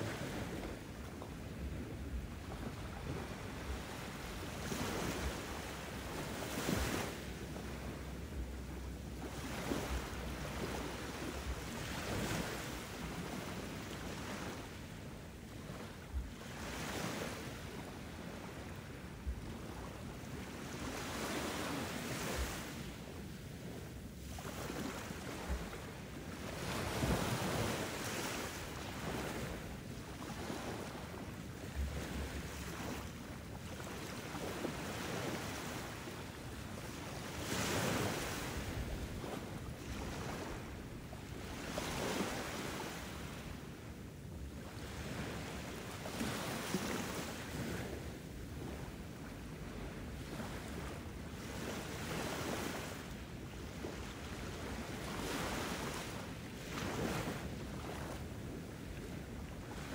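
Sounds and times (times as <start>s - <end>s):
ocean waves breaking: 0.0s - 23.0s, 23.6s - 43.8s, 44.4s - 59.9s.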